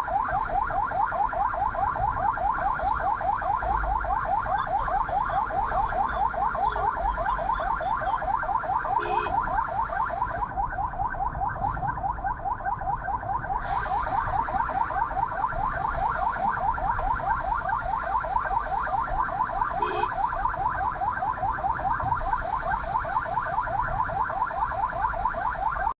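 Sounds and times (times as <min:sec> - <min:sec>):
siren yelping: 0:00.0 - 0:26.0.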